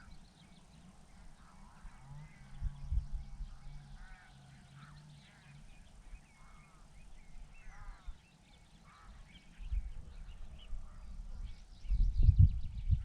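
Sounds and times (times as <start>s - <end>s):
birds chirping: 0.0s - 13.0s
harsh low bird calls: 0.0s - 13.0s.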